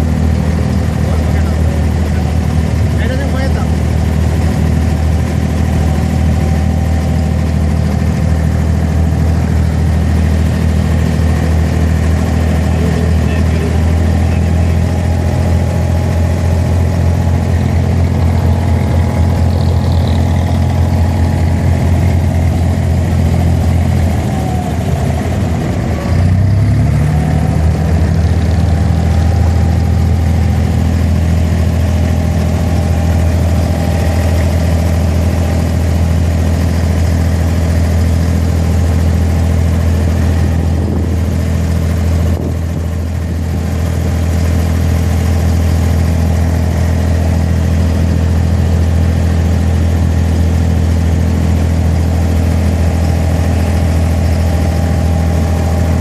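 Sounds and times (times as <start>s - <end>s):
boat diesel engine running: 0.0s - 56.0s.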